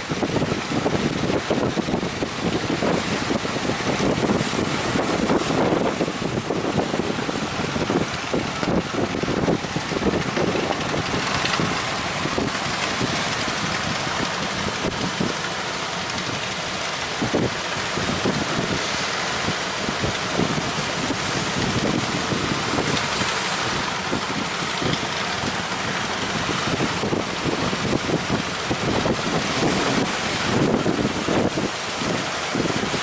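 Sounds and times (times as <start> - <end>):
steady rushing noise: 0.0 - 33.0
wind buffeting microphone: 0.0 - 33.0.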